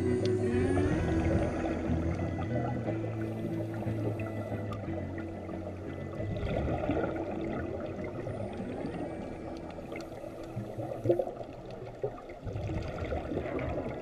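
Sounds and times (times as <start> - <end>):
underwater air bubbles gurgling: 0.0 - 14.0.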